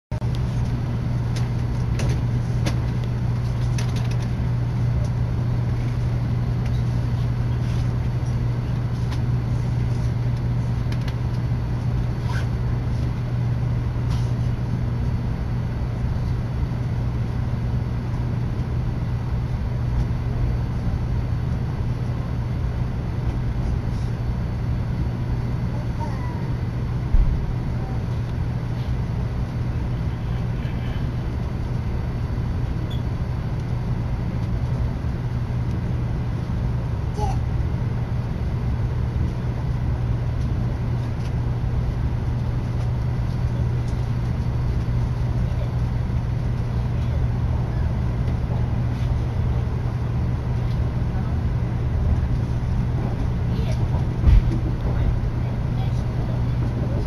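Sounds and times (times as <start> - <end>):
train carriage hum: 0.1 - 57.0.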